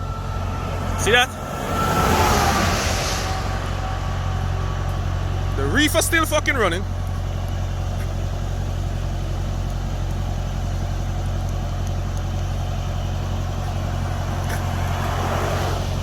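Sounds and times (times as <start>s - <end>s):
refrigeration unit diesel engine: 0.0s - 16.0s.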